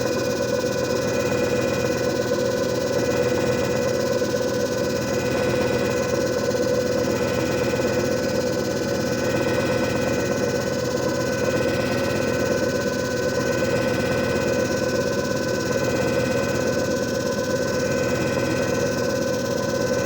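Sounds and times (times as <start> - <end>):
constant whine: 0.0 - 20.0.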